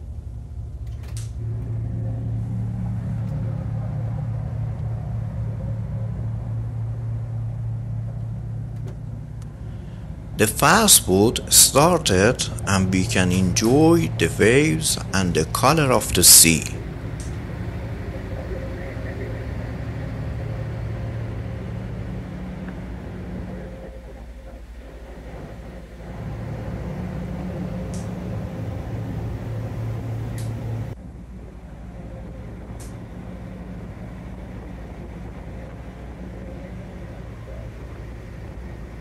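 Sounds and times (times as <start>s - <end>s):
boat engines droning: 0.0s - 39.0s.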